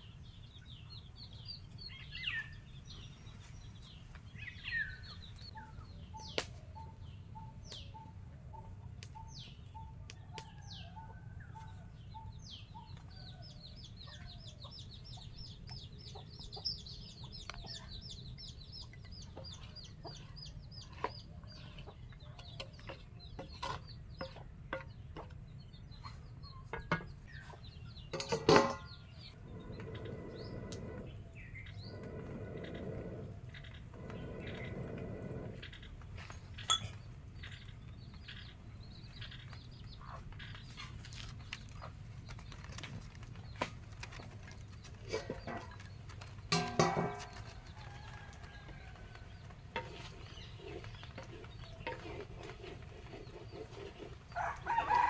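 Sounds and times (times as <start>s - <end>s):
small birds chirping: 0.0s - 55.0s
chickens clucking: 4.6s - 55.0s.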